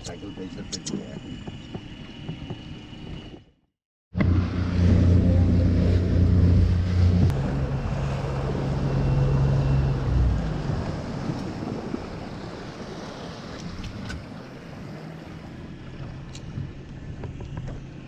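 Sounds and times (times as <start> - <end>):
boat engine running: 0.0 - 18.0
water noise: 0.0 - 18.0.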